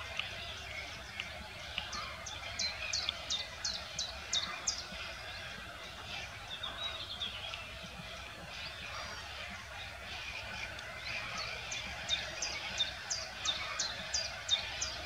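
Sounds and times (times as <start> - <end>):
bird chatter: 0.0 - 15.0
birds calling with sliding notes: 0.0 - 15.0
steady background noise: 0.0 - 15.0.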